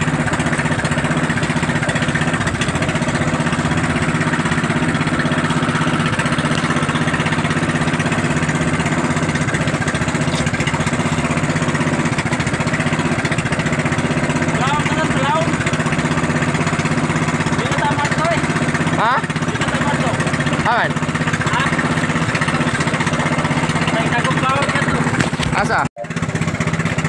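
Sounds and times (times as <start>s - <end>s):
boat engine chugging: 0.0s - 27.0s.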